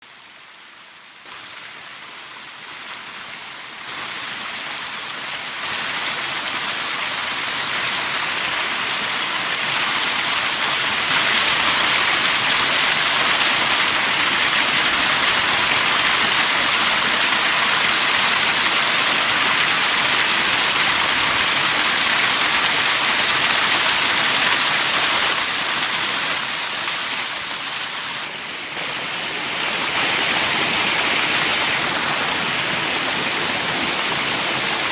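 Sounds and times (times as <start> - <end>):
water rushing: 0.1 - 34.9.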